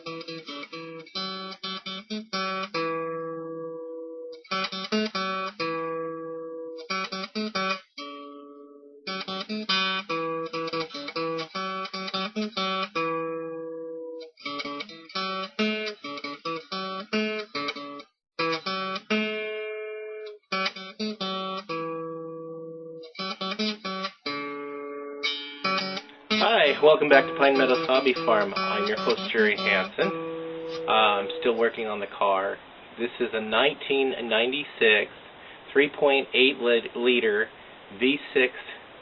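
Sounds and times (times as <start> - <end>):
acoustic guitar playing: 0.0 - 36.5.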